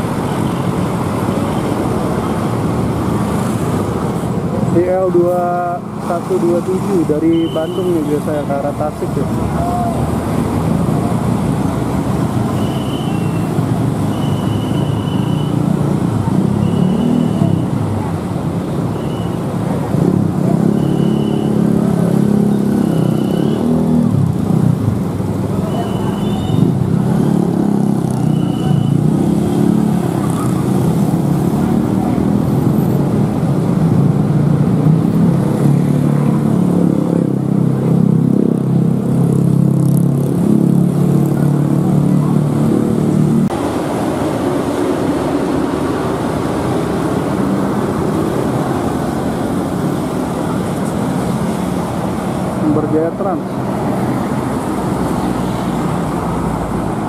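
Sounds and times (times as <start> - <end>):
cars and motorbikes passing: 0.0 - 57.0.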